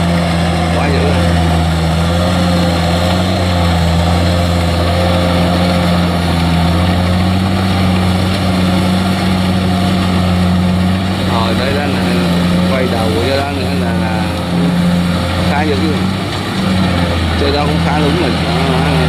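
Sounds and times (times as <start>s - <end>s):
diesel engine under heavy load: 0.0s - 19.0s.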